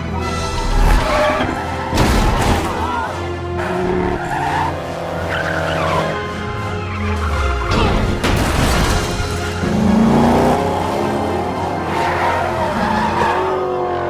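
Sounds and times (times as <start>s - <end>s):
orchestral film score: 0.0s - 14.0s
race car engines: 0.0s - 14.0s
tyres skidding: 0.0s - 14.0s.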